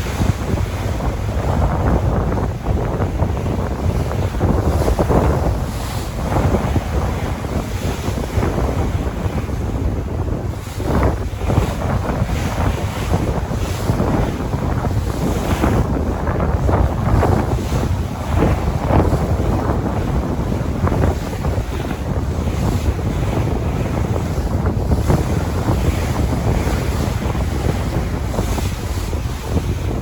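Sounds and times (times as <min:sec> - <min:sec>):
sea waves splashing: 0:00.0 - 0:30.0
wind buffeting microphone: 0:00.0 - 0:30.0.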